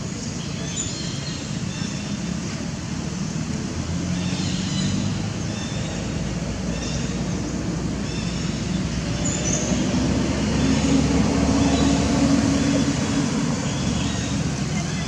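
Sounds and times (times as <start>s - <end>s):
vehicle engine running: 1.6s - 15.0s.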